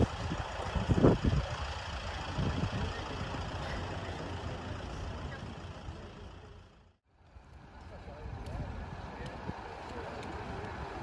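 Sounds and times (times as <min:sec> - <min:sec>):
diesel bus engine rumbling: 0:00.0 - 0:11.0.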